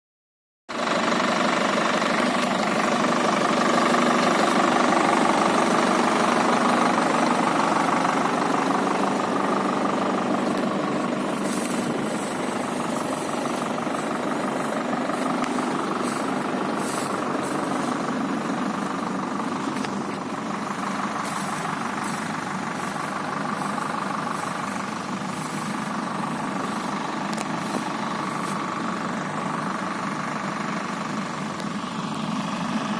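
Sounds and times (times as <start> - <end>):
tractor engine running: 0.7 - 32.9.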